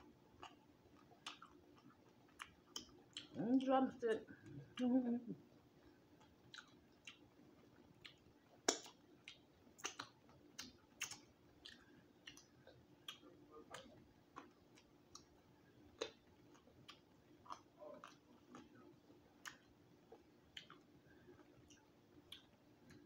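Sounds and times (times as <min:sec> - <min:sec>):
chewing smacks and clicks: 0:00.3 - 0:03.7, 0:06.1 - 0:23.0.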